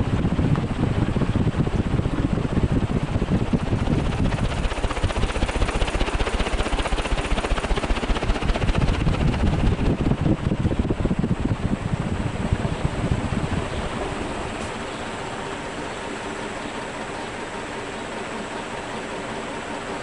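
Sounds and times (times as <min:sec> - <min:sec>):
wind buffeting microphone: 0:00.0 - 0:17.5
ceiling fan air rushing: 0:00.0 - 0:20.0.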